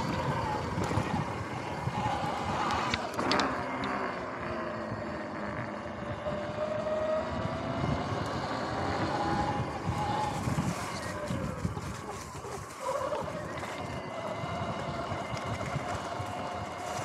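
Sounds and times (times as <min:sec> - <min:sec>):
electric motor whine: 0:00.0 - 0:17.0
wind noise on microphone: 0:00.0 - 0:17.0.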